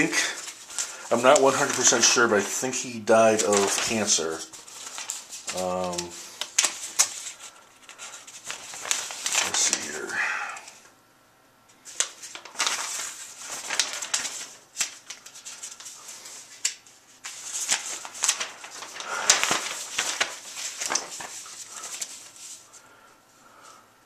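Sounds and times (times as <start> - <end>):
paper rustling and crinkling: 0.0 - 10.8, 11.8 - 23.0.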